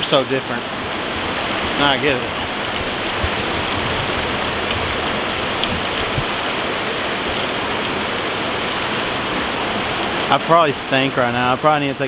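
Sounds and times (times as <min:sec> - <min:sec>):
small waterfall splashing on rock: 0:00.6 - 0:12.0.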